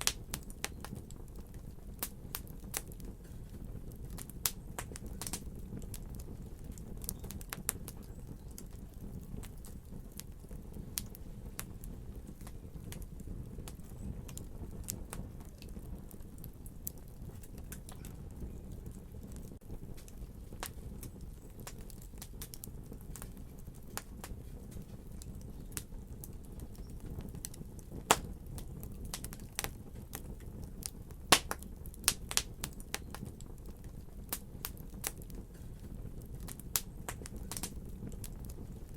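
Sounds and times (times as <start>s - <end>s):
low rumble of flames: 0.0s - 38.9s
wood fire pops and snaps: 0.0s - 38.9s.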